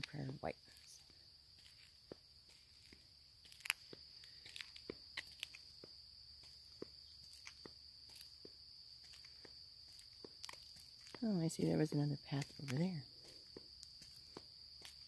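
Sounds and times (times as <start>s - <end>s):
footsteps on a trail: 0.0s - 15.0s
insect trill: 0.0s - 15.0s.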